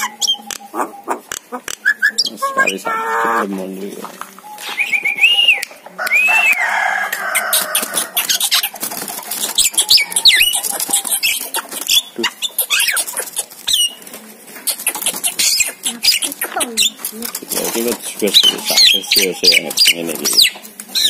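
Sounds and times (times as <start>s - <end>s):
bird whistling and clicking: 0.0s - 2.3s, 4.4s - 14.0s, 14.6s - 17.4s, 18.3s - 21.0s.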